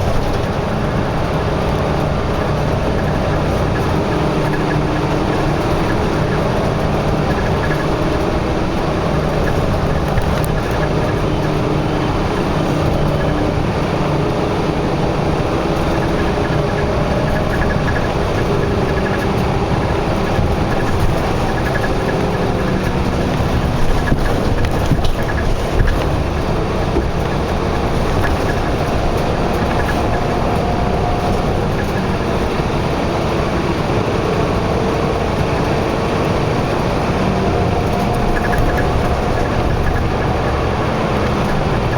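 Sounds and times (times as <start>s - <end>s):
road traffic: 0.0s - 41.9s.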